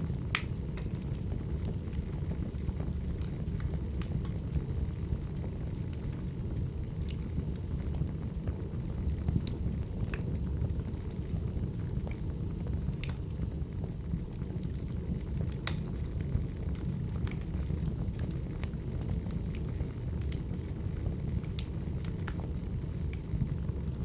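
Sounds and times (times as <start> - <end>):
firewood popping and crackling: 0.0 - 24.0
flames rumbling: 0.0 - 24.0.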